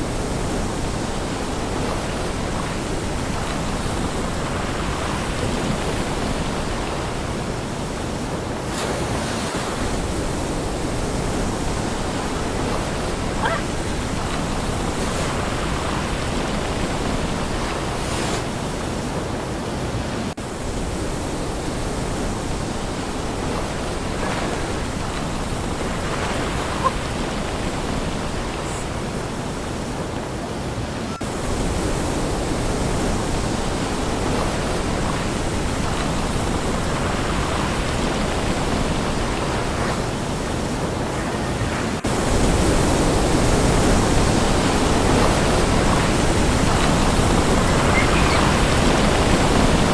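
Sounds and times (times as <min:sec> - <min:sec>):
sea surf washing on shore: 0:00.0 - 0:49.9.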